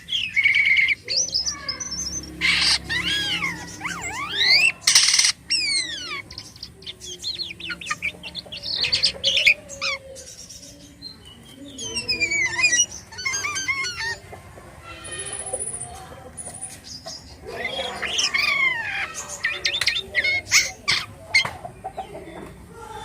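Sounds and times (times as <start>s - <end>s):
starling singing: 0.0s - 23.0s.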